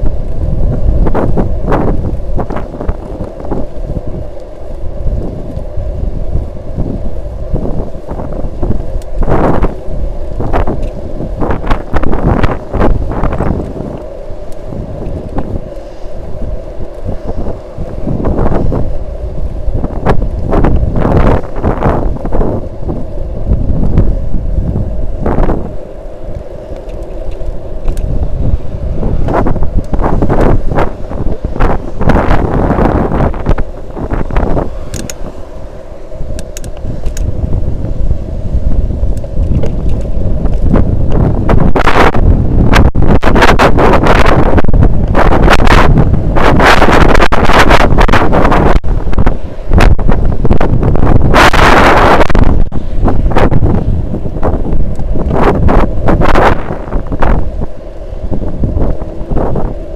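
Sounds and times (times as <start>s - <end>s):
bicycle tyres rumbling on asphalt: 0.0s - 59.9s
wind buffeting microphone: 0.0s - 59.9s.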